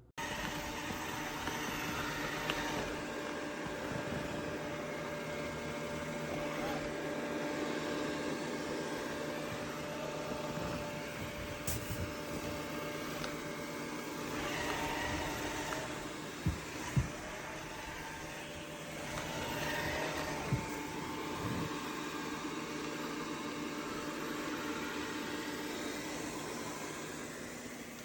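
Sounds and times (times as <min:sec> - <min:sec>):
robot vacuum whirring: 0:00.0 - 0:28.0.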